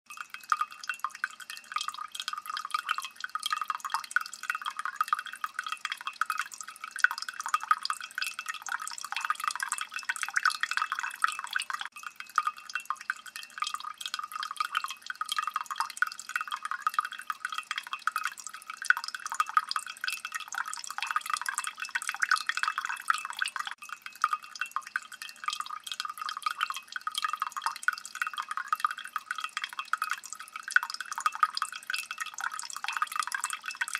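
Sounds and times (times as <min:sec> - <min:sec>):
water dripping: 0:00.1 - 0:33.9.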